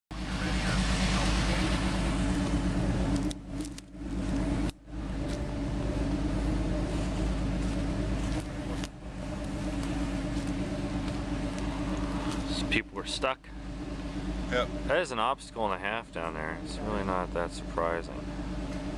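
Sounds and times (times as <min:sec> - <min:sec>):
off-road engine running: 0:00.1 - 0:18.9.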